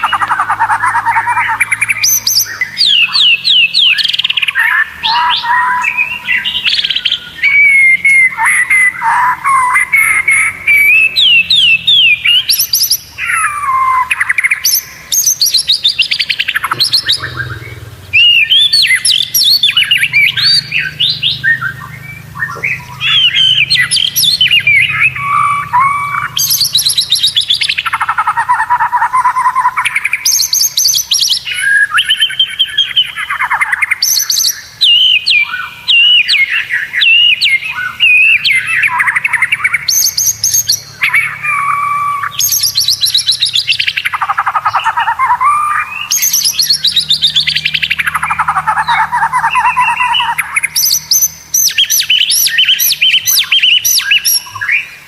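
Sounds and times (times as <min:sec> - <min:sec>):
bird singing whistles and trills: 0:00.0 - 0:55.0.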